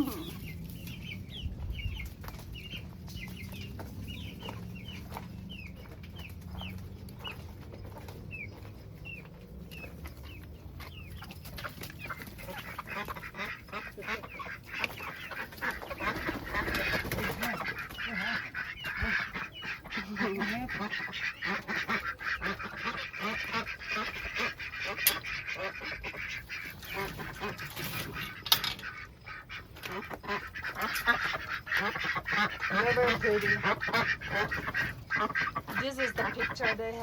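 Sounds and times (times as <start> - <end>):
chicks peeping: 0.0 - 37.0
hens clucking: 0.0 - 37.0.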